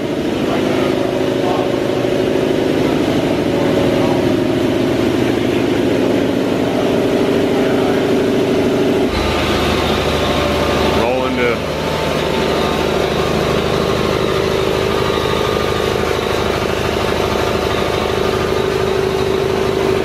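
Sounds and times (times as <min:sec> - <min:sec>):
air compressor running: 0:00.0 - 0:20.0
deeper hum: 0:00.0 - 0:20.0.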